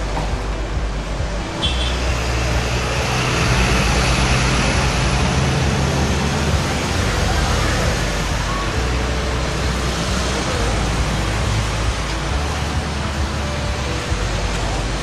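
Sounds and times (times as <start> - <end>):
cars and motorbikes passing: 0.0 - 15.0.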